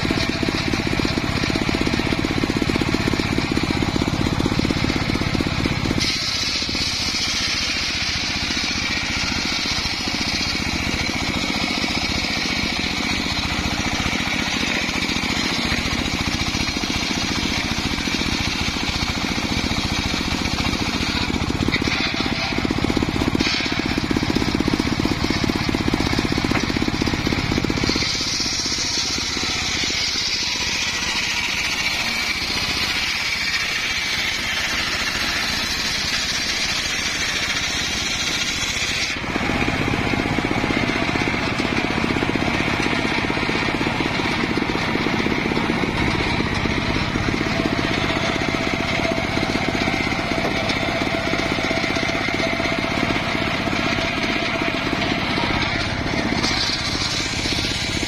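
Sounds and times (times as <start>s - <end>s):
saw blade cutting wood: 0.0s - 58.0s
sawmill drive running: 0.0s - 58.0s.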